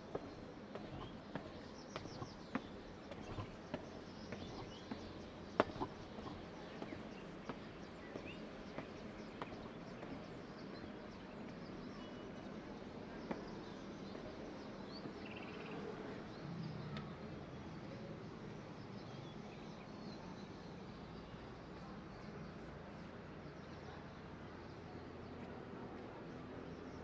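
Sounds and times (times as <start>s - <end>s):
steady background noise: 0.0s - 27.0s.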